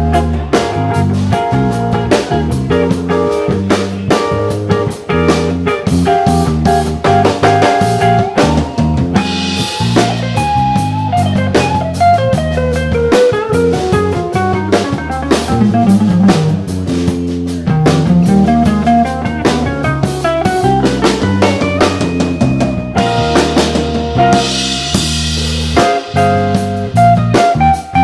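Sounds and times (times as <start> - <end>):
drum kit: 0.0 - 28.0
electric bass: 0.0 - 28.0
electric guitar melody: 0.0 - 28.0.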